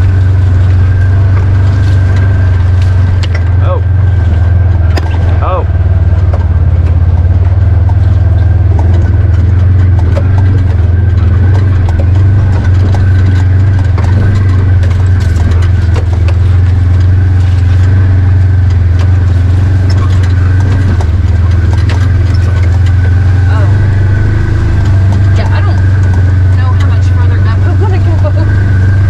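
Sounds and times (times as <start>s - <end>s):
utility vehicle engine droning: 0.0s - 29.0s
clicks and rattles: 0.6s - 3.6s, 6.1s - 28.6s.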